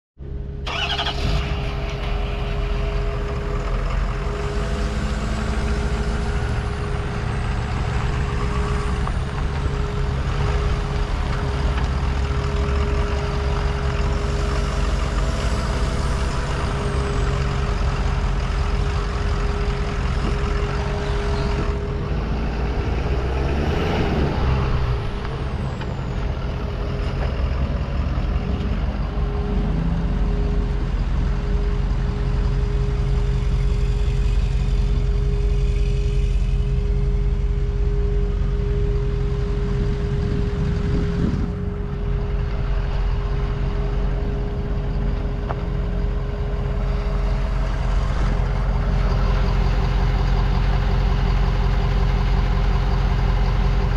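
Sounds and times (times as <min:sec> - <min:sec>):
pickup engine idling: 0:00.3 - 0:53.9.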